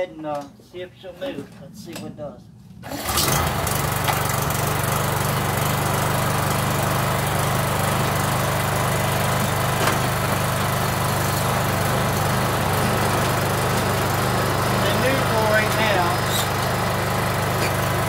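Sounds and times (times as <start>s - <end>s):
lawn mower engine running: 2.8s - 18.0s.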